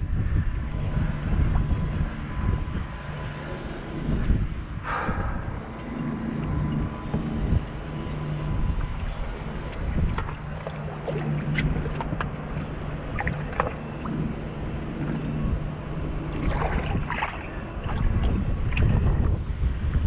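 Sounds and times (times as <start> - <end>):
boat hum and rumble: 0.0 - 20.0.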